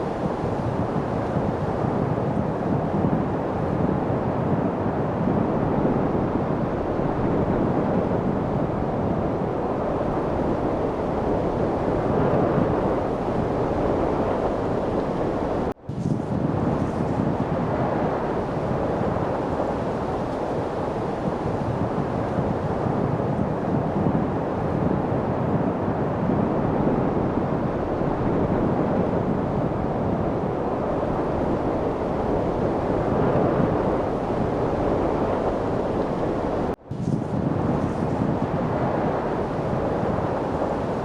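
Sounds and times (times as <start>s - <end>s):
steady wind: 0.0s - 41.0s.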